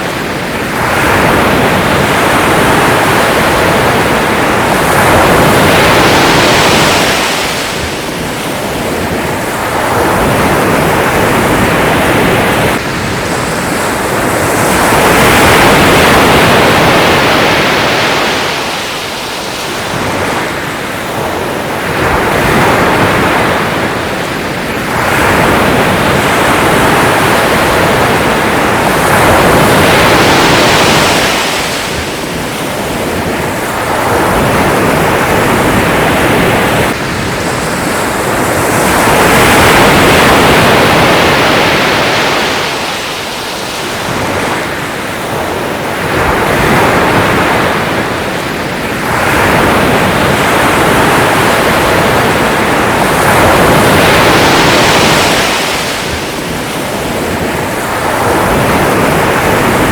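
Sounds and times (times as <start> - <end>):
sea waves breaking: 0.0 - 59.9
wind noise on microphone: 0.0 - 59.9.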